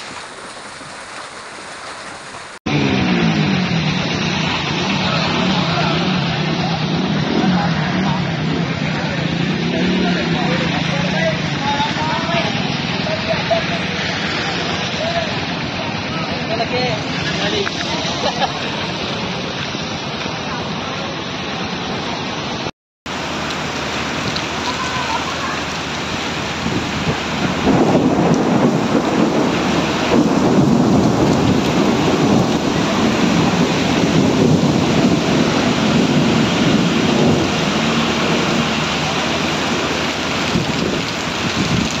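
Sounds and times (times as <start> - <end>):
heavy rain: 0.0 - 42.0.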